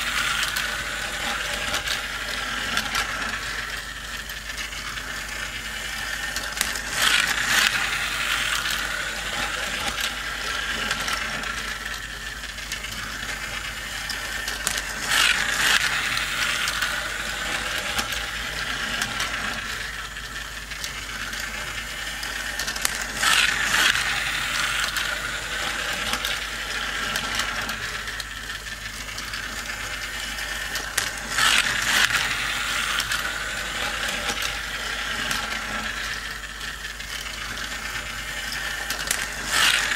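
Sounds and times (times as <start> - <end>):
plastic toy cars clattering: 0.0 - 39.9
toy track gears whirring and clicking: 0.0 - 39.9.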